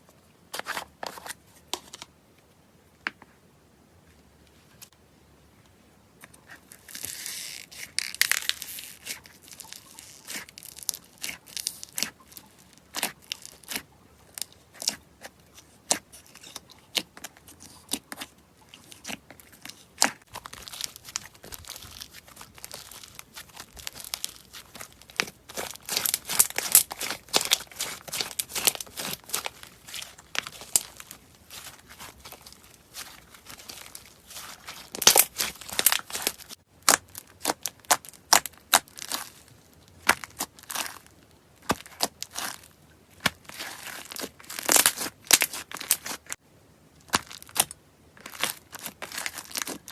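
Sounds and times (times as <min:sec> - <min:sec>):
slime crackling and popping: 0:06.8 - 0:46.4, 0:47.1 - 0:49.9.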